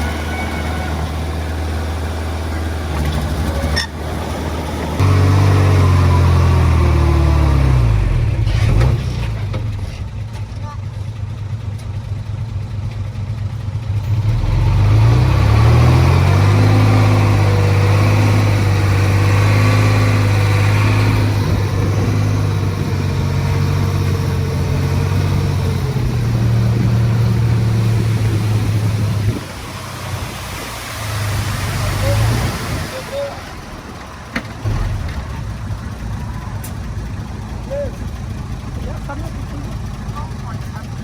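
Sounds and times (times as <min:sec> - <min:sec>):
diesel engine revving: 0:00.0 - 0:41.0.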